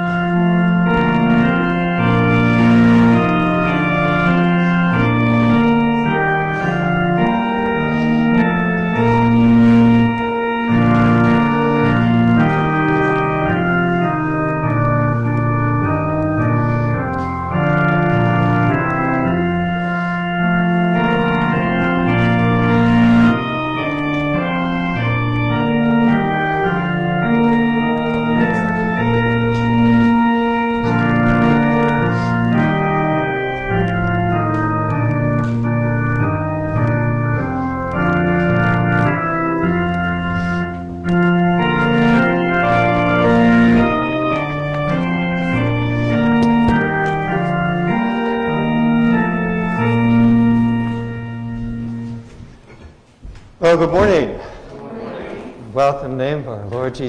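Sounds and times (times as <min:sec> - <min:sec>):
organ playing sustained chords: 0:00.0 - 0:57.0.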